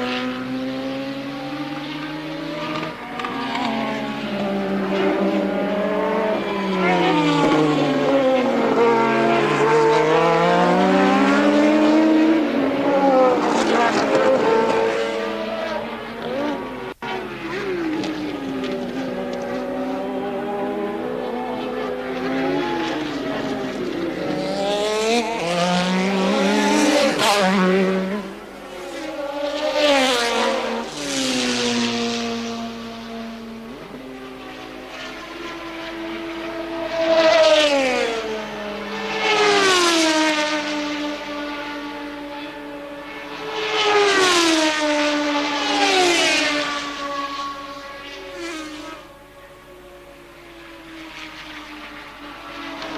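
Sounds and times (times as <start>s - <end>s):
racing cars passing at speed: 0.0s - 52.9s.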